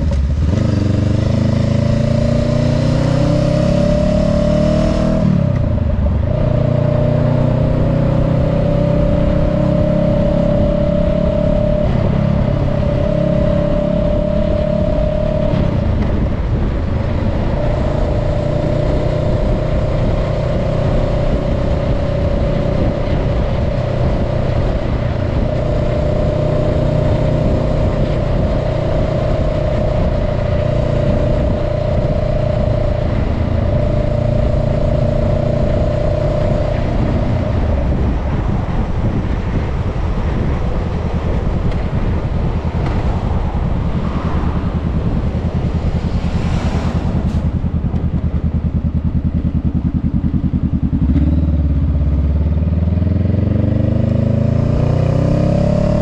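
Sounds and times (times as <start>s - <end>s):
wind rush: 0.0s - 51.2s
motorcycle engine running: 0.0s - 56.0s
road noise: 0.0s - 56.0s.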